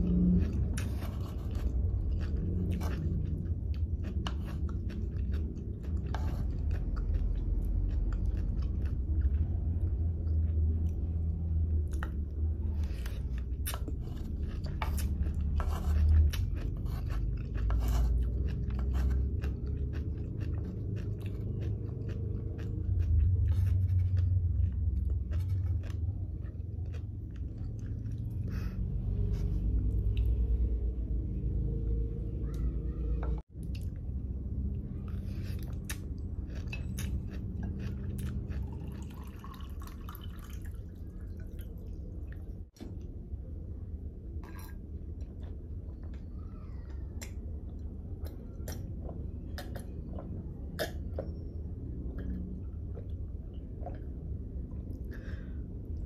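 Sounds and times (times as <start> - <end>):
chewing with crunchy pops: 0.0 - 30.4, 33.2 - 43.2, 44.3 - 55.5
low rumble: 0.0 - 39.3, 40.8 - 56.0.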